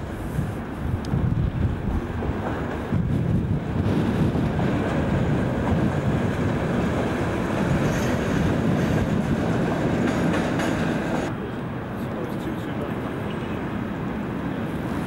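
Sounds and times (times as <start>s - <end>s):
diesel locomotive engine: 0.0s - 15.0s
train wheels on rails: 0.0s - 15.0s.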